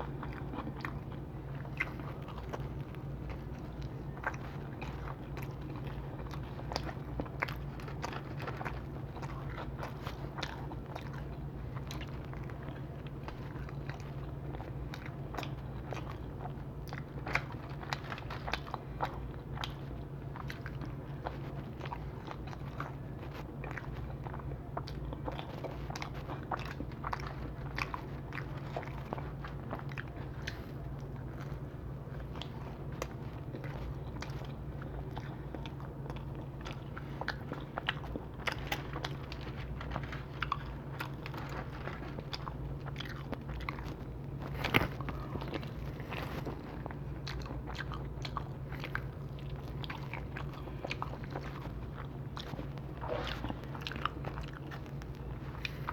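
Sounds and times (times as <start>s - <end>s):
chewing and biting pizza: 0.0s - 55.9s.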